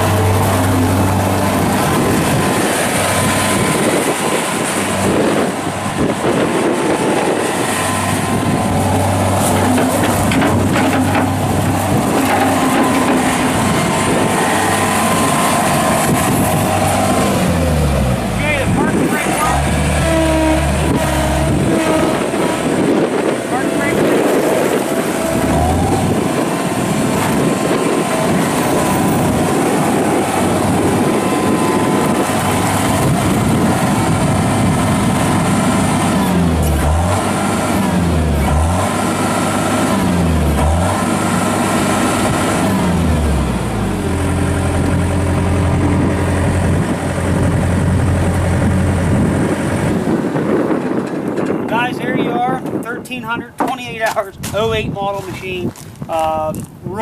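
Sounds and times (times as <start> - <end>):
diesel engine at working revs: 0.0 - 57.0.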